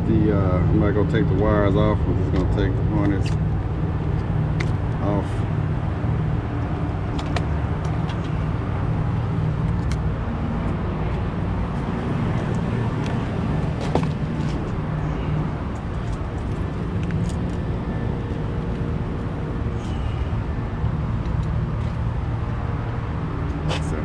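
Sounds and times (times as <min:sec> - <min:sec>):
hvac equipment humming: 0:00.0 - 0:24.0.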